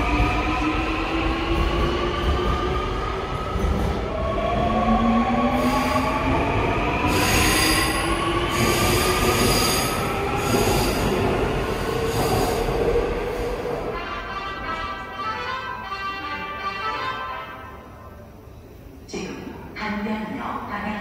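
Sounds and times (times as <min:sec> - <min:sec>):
rail noise: 0:00.0 - 0:19.8.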